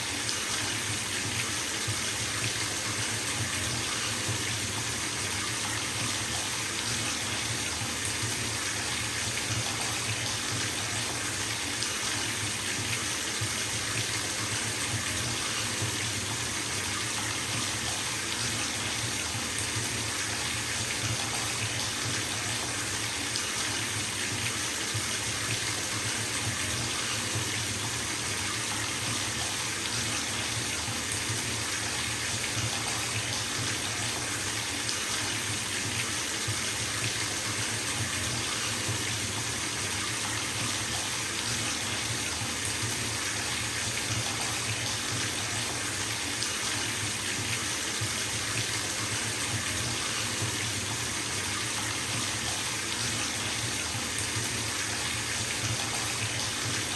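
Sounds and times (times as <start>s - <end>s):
water pouring into bathtub: 0.0s - 56.9s.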